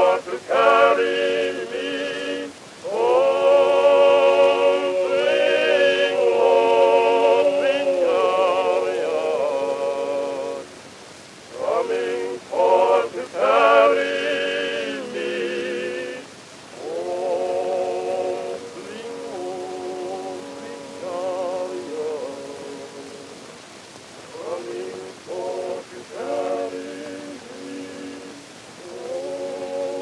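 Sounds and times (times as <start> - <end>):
person singing with vibrato: 0.0 - 10.8, 11.5 - 23.5, 24.2 - 30.0.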